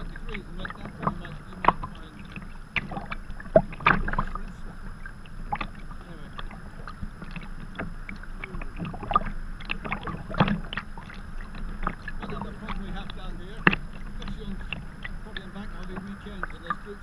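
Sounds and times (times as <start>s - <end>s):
paddle splashes and drips: 0.0s - 17.0s
water slapping against hull: 0.0s - 17.0s.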